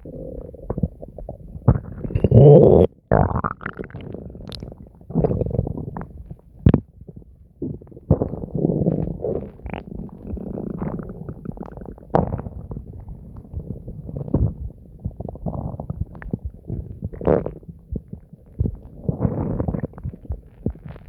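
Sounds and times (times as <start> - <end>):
stomach gurgling and rumbling: 0.0 - 21.0.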